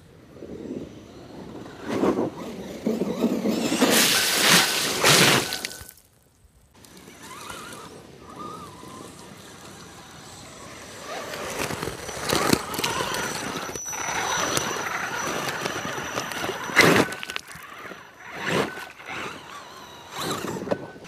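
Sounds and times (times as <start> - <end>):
rc truck motor whining: 0.1 - 21.0
tyres scrabbling over rocks: 2.9 - 21.0.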